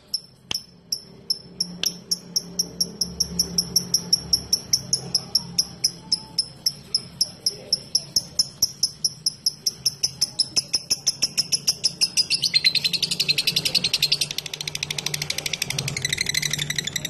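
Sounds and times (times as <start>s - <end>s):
lovebird chirping and chattering: 0.0s - 17.0s.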